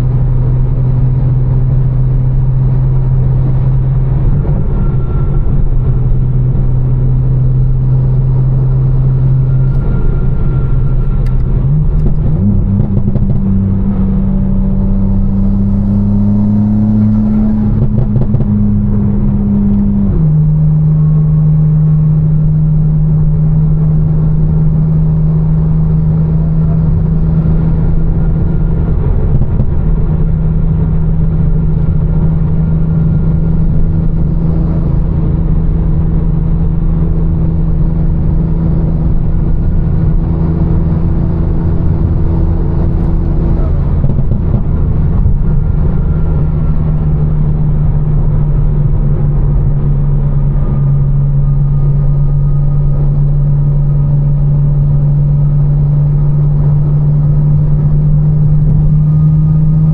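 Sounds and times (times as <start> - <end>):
car engine revving while driving: 0.0 - 59.9.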